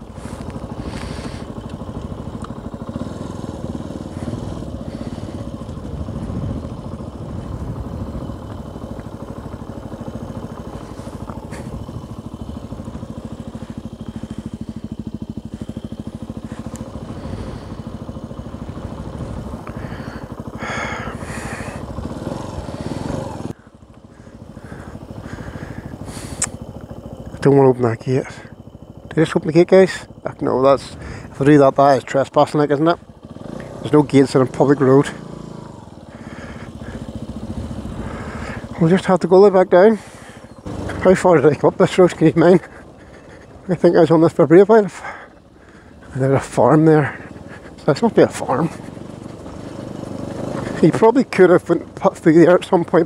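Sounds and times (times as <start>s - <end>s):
motorcycle engine at low revs: 0.0s - 53.0s.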